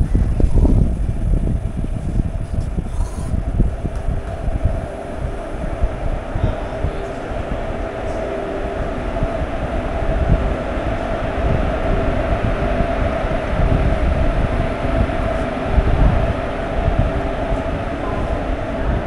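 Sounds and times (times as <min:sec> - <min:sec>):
steady hum: 0:00.0 - 0:19.0
train wheels rumbling on track: 0:00.0 - 0:19.0.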